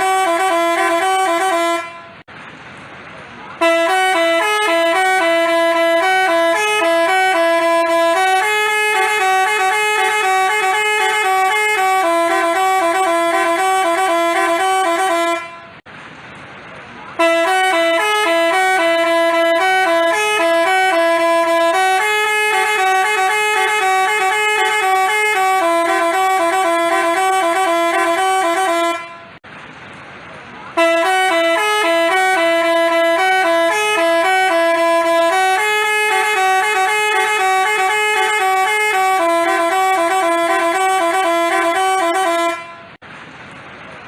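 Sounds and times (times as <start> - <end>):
bus horn playing multi-note tune: 0.0 - 2.3, 3.6 - 15.8, 17.2 - 29.4, 30.7 - 43.0.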